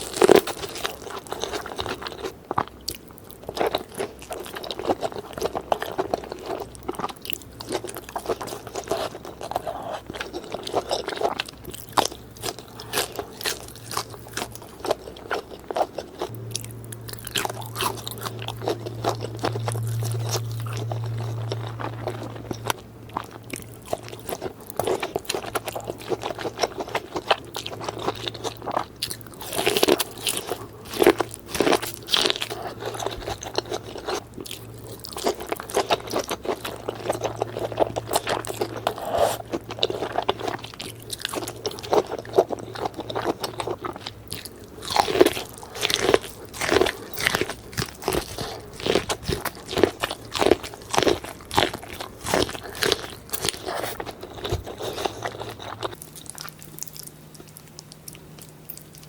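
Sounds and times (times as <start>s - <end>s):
crunchy bites and chewing: 0.0s - 59.0s
low steady hum: 0.0s - 59.0s.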